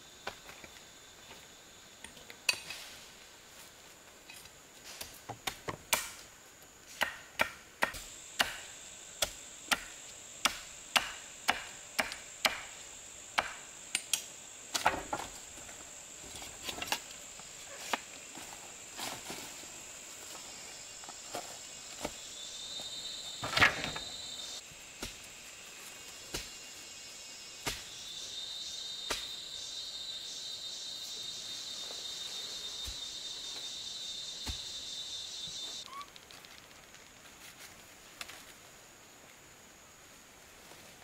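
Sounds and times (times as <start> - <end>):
insect trill: 0.0 - 41.0
insects buzzing: 0.0 - 41.0.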